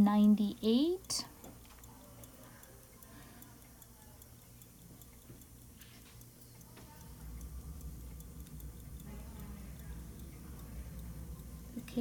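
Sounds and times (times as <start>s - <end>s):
pocket watch ticking: 0.0s - 12.0s.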